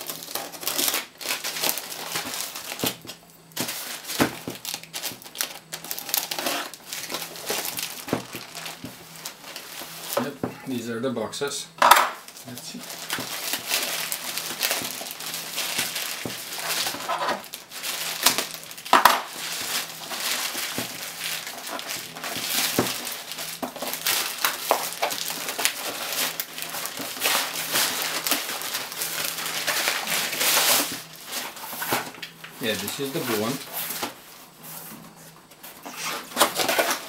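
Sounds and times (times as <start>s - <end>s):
plastic bag ripping: 0.0s - 10.4s, 12.2s - 34.1s, 35.8s - 37.0s
plastic mailer bag crinkling: 0.0s - 10.9s, 12.2s - 34.2s, 35.8s - 37.0s.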